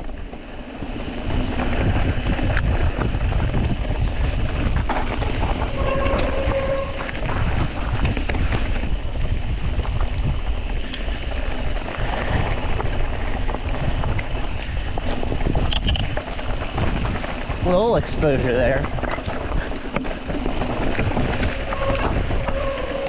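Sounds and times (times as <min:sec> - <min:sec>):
bike clicks and knocks: 0:00.0 - 0:23.0
bike rumbling and rattling: 0:00.0 - 0:23.0
wind buffeting microphone: 0:00.0 - 0:23.0.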